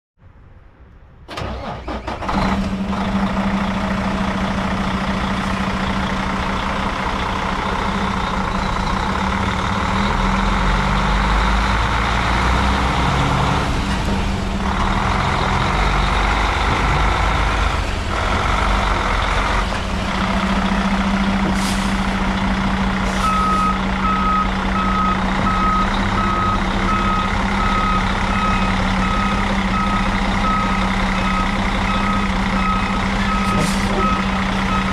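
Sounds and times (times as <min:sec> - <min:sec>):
diesel truck engine idling: 0:01.3 - 0:11.0, 0:14.1 - 0:34.9.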